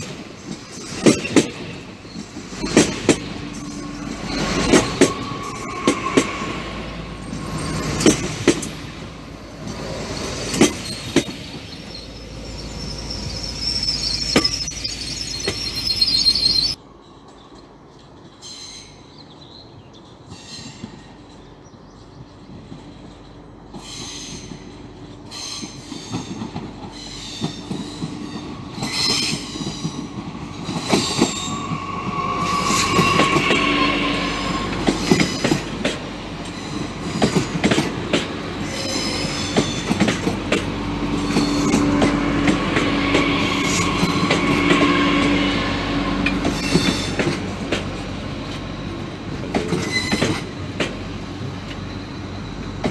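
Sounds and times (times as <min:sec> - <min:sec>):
train wheels clicking on rails: 0:00.0 - 0:18.4, 0:20.1 - 0:52.9
train whine: 0:00.0 - 0:19.0, 0:22.1 - 0:52.9.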